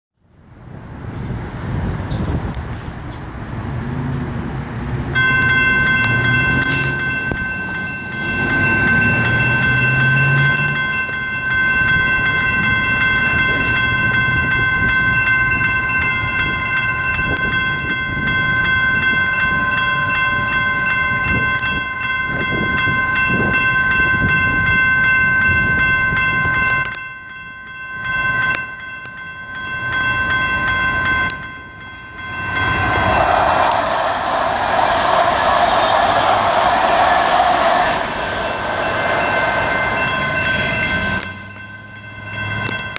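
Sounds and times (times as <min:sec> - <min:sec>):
road traffic noise: 0:00.2 - 0:42.9
railroad crossing bells ringing: 0:03.5 - 0:42.9.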